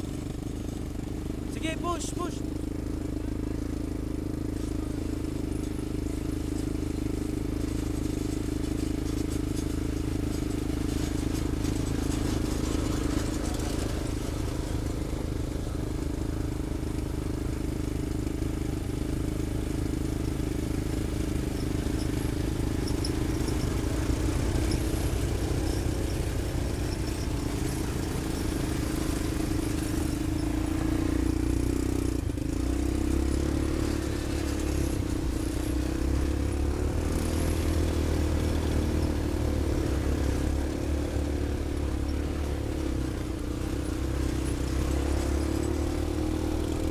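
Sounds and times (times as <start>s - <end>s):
vehicle engine droning: 0.0s - 46.9s.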